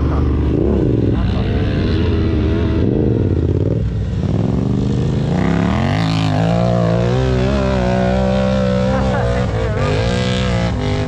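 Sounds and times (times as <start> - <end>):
quad engine revving up: 0.0 - 11.0
quad engines running: 0.0 - 11.0.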